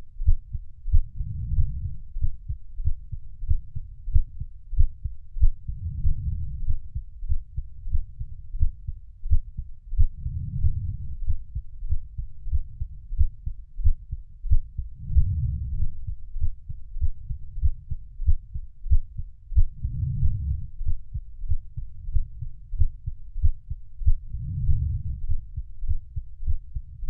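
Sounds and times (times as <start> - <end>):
muffled heartbeat: 0.0 - 27.0.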